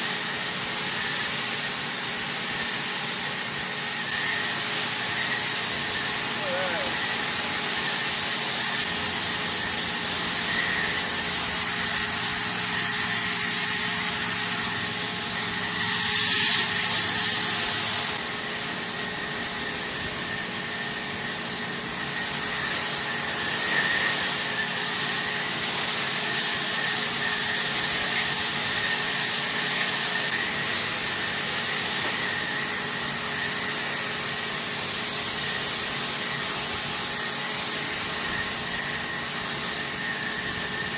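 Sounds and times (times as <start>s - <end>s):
high machine whine: 0.0s - 40.9s
pressure washer spray hissing: 0.0s - 40.9s.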